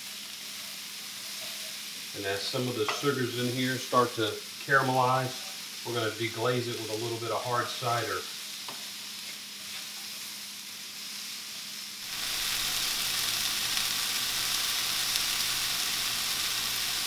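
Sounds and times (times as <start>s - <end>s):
vegetables sizzling in a skillet: 0.0s - 17.0s.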